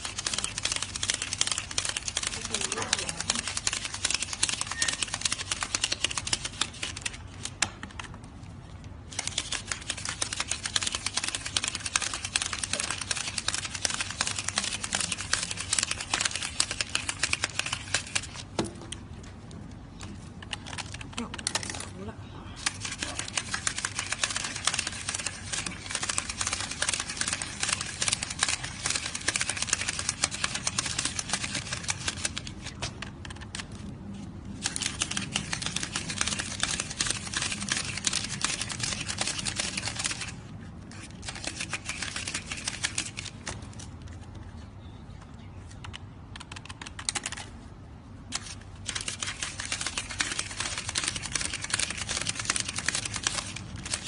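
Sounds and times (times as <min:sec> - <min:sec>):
banknotes flicking while counted: 0:00.0 - 0:08.2, 0:08.9 - 0:19.0, 0:19.9 - 0:33.8, 0:34.5 - 0:44.6, 0:45.7 - 0:54.0.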